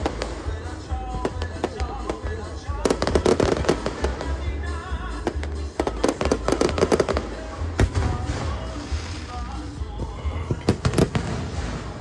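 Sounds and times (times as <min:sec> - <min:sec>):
fireworks crackling: 0:00.0 - 0:12.0
music playing: 0:00.0 - 0:12.0.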